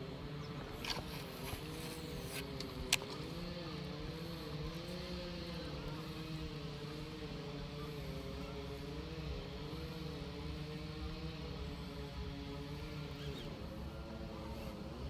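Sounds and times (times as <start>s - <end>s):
wavering mechanical hum: 0.0s - 15.0s.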